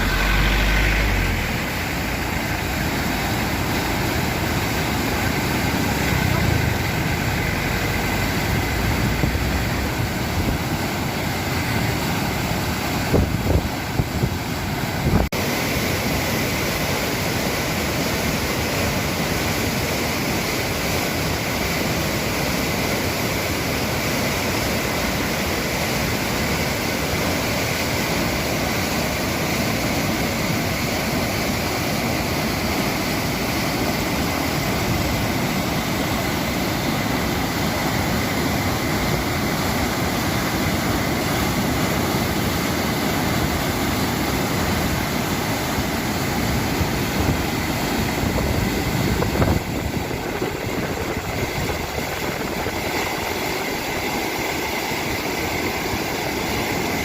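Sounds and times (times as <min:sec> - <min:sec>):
water rushing over spillway: 0:00.0 - 0:57.0.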